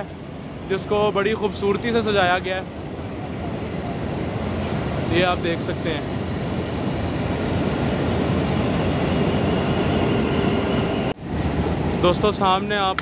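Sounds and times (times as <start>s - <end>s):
faint steady whine: 0.0s - 12.8s
diesel locomotive engine rumbling: 0.0s - 13.0s.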